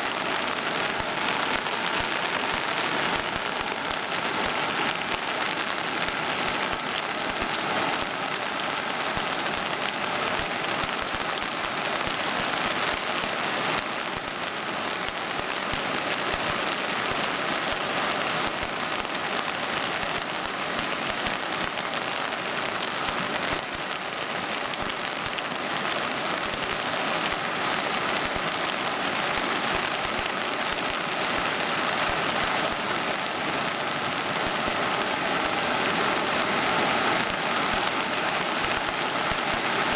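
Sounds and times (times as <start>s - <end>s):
steady hiss of water: 0.0s - 39.9s.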